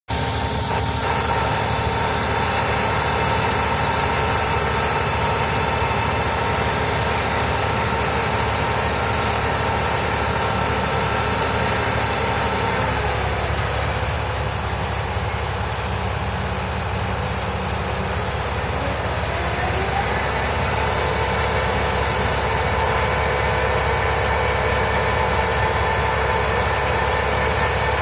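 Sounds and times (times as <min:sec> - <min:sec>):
diesel crane engine rumbling: 0:00.1 - 0:28.0
steady whining tone: 0:00.2 - 0:28.0.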